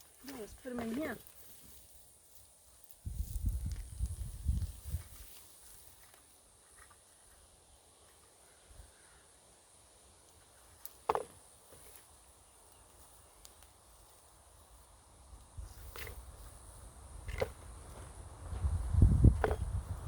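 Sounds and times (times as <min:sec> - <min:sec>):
high insect-like hiss: 0:00.0 - 0:20.0.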